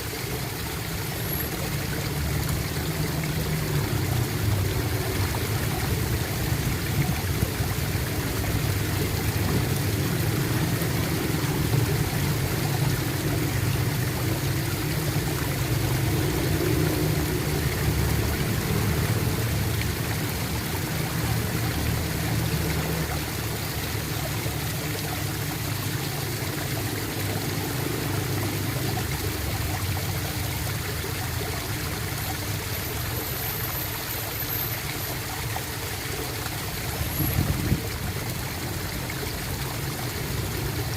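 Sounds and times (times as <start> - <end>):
running water gurgling: 0.0 - 40.9.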